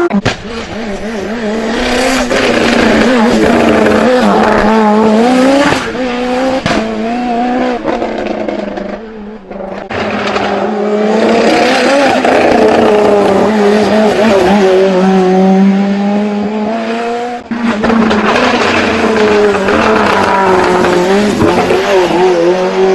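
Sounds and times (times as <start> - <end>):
race car engine revving: 0.0 - 22.9.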